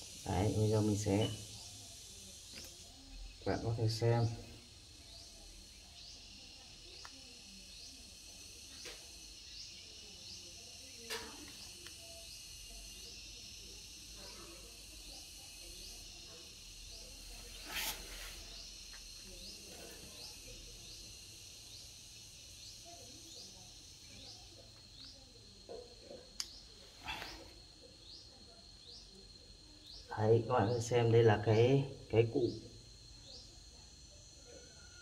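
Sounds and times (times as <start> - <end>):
steady high hiss: 0.0 - 34.9.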